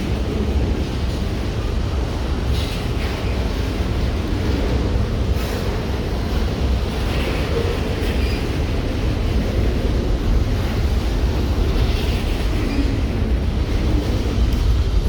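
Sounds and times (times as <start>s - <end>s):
train passing with low rumble: 0.0s - 15.0s.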